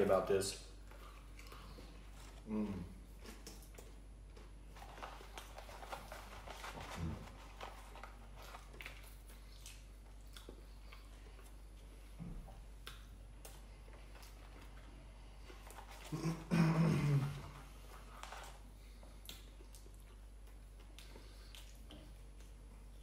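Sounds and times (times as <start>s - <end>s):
chewing: 0.8s - 16.5s, 17.1s - 23.0s.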